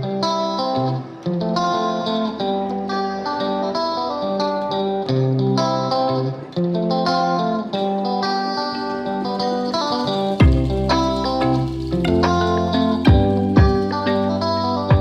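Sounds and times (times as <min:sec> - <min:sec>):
plucked guitar melody: 0:00.0 - 0:15.0.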